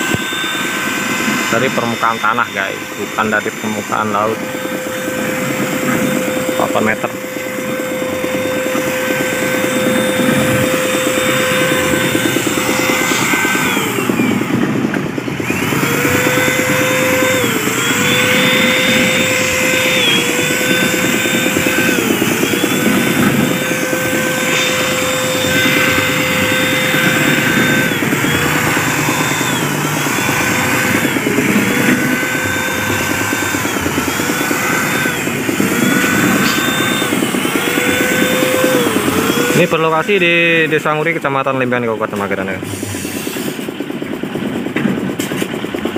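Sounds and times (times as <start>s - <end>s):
air compressor motor hum: 0.0s - 45.9s.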